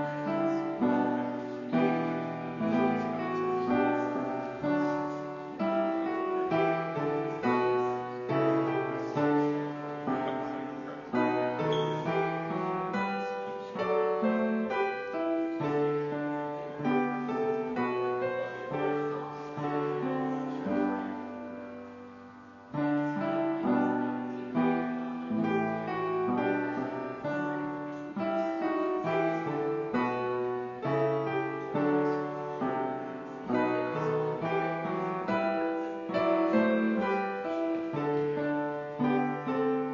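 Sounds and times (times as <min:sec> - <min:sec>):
slow piano piece: 0:00.0 - 0:39.9.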